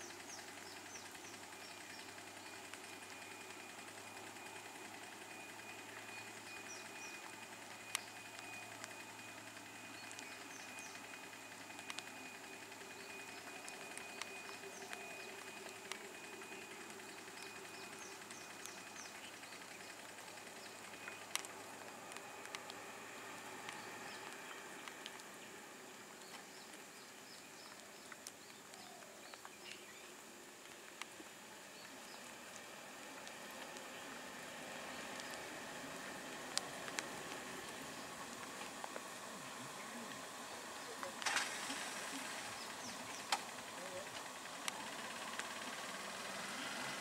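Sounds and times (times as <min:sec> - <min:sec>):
birds chirping: 0:00.0 - 0:46.2
faint low hum: 0:00.0 - 0:47.0.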